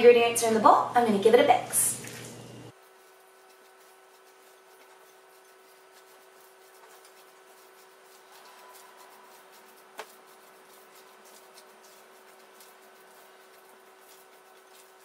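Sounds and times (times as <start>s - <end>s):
spoon stirring thick mixture: 2.7s - 15.0s.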